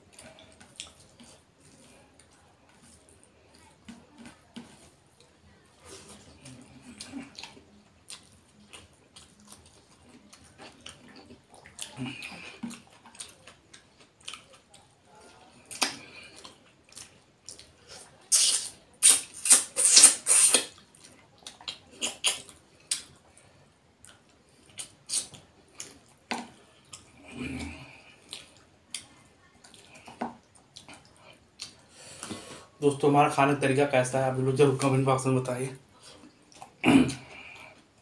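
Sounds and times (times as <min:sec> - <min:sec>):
wet lip-smacking and chewing: 0:00.1 - 0:05.3, 0:05.9 - 0:23.4, 0:24.0 - 0:32.4.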